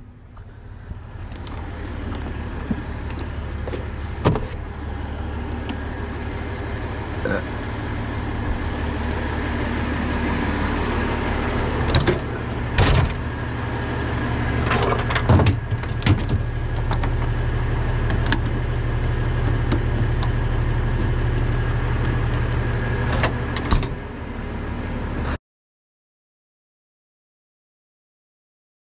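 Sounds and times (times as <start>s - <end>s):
truck engine idling: 0.0s - 25.4s.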